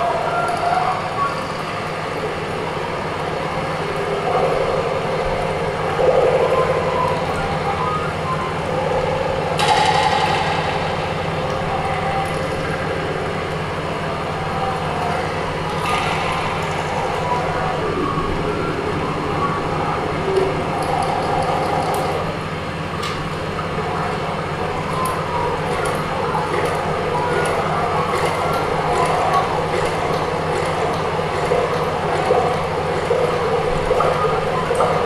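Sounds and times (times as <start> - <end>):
dense continuous drone: 0.0 - 35.0
steady low hum: 0.0 - 35.0.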